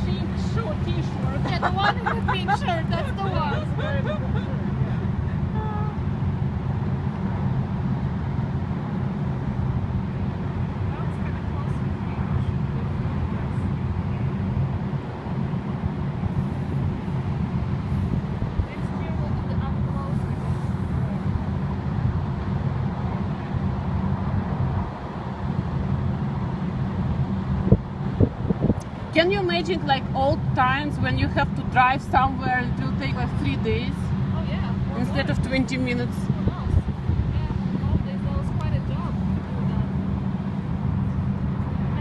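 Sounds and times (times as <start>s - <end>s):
low background rumble: 0.0s - 42.0s.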